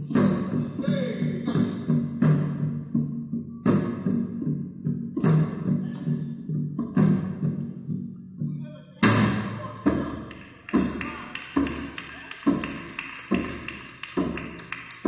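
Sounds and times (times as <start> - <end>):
drum beating slowly: 0.0 - 8.1, 9.0 - 15.0.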